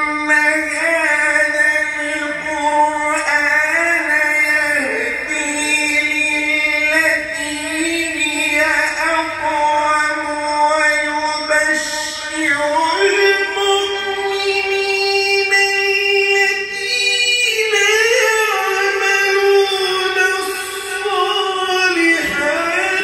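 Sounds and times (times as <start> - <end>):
man reciting melodically: 0.0 - 23.0.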